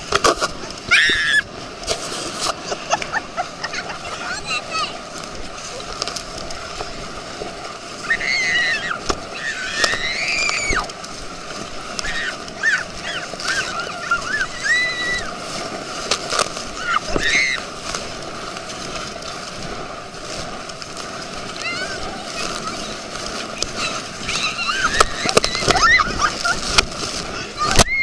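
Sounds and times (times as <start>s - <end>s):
sharp splashes: 0.0s - 28.0s
water rushing against inflatable tube: 0.0s - 28.0s.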